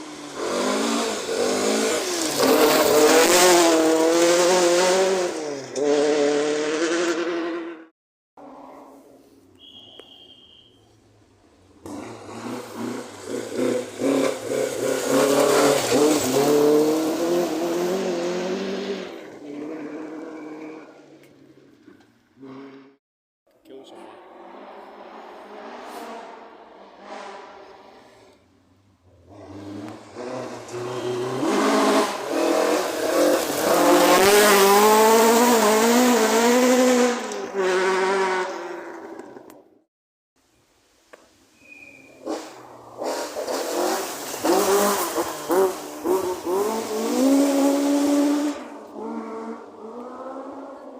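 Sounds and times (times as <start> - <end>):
rally car engine revving: 0.0 - 7.9, 11.8 - 21.2, 23.9 - 39.6, 42.2 - 50.9.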